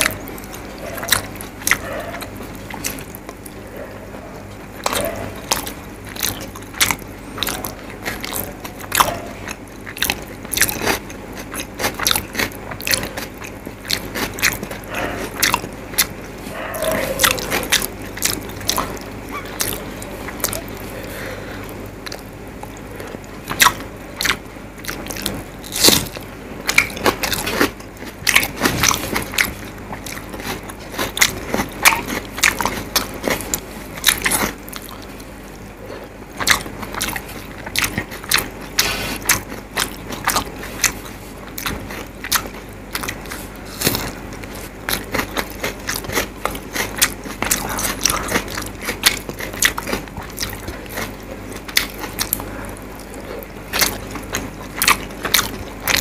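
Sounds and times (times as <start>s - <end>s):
person chewing and lip-smacking: 0.0s - 56.0s.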